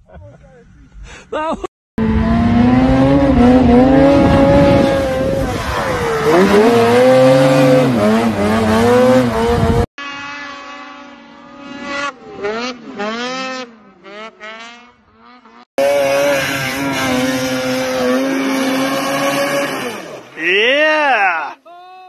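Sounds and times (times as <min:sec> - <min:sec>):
snowmobile engine at high revs: 0:02.0 - 0:21.4
snowmobile revving in blips: 0:02.0 - 0:21.5.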